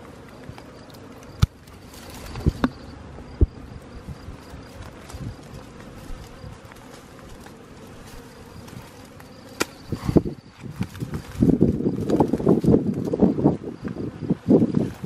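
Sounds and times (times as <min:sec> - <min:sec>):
bee swarm buzzing: 0:00.0 - 0:15.0
branches and leaves rustling: 0:00.0 - 0:15.0.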